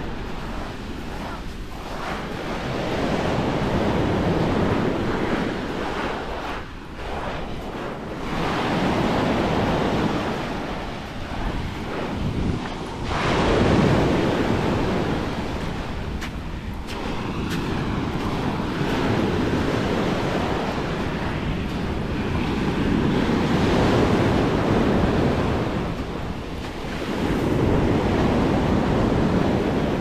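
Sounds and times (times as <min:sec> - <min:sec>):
sea waves breaking on beach: 0:00.0 - 0:30.0
wind buffeting microphone: 0:00.0 - 0:30.0.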